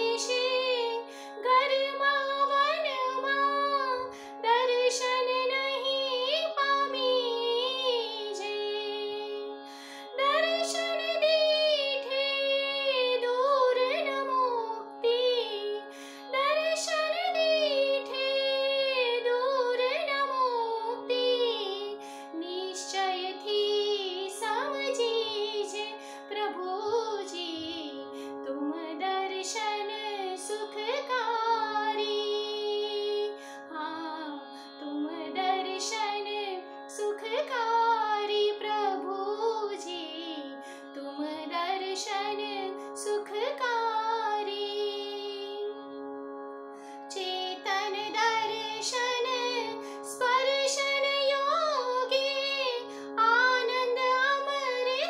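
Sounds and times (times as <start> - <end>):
woman singing devotional song: 0.0 - 46.0, 46.9 - 55.0.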